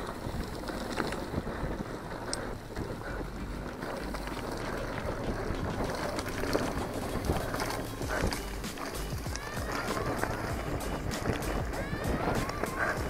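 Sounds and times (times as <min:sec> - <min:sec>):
bike tyres rumbling on dirt: 0:00.0 - 0:13.0
wind noise on microphone: 0:00.0 - 0:13.0.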